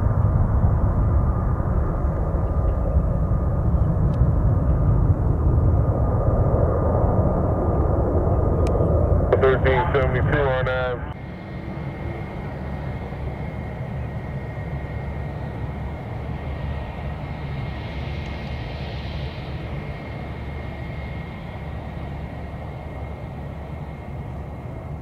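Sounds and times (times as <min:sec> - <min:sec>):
distant jet airliner rumble: 0:00.0 - 0:25.0.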